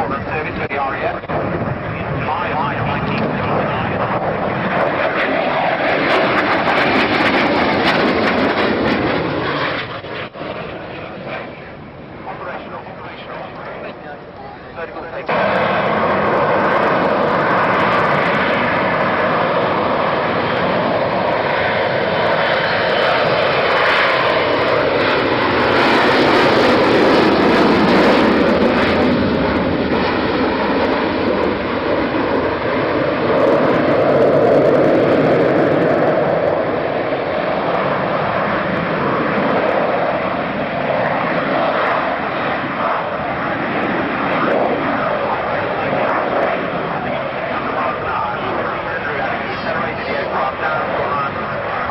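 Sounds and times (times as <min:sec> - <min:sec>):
aircraft engine noise: 0:00.0 - 0:51.9.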